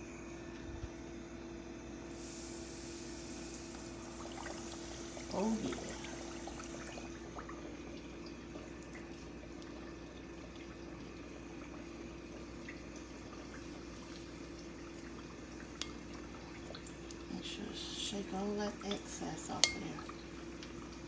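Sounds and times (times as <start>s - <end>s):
faint steady hum: 0.0s - 21.0s
chicken frying in hot oil: 2.1s - 21.0s.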